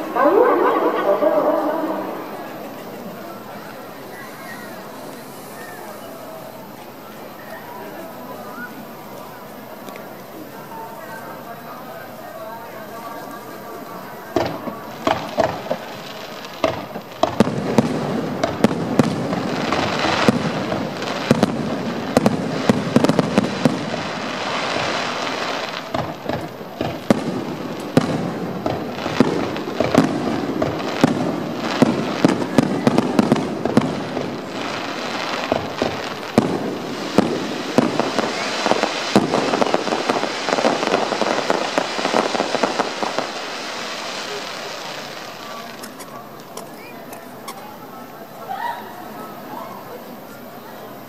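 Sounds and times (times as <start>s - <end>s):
fireworks bursts and crackling bangs: 0.0s - 51.0s.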